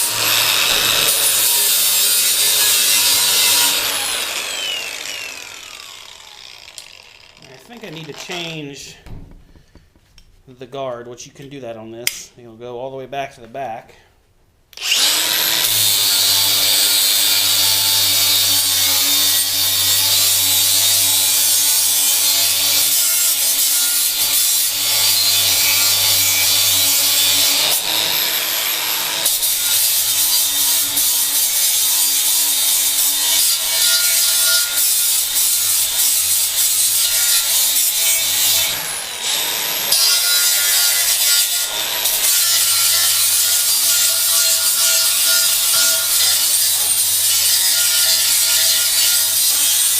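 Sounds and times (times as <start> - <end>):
angle grinder sanding: 0.0 - 8.6, 14.8 - 39.0, 39.6 - 49.9.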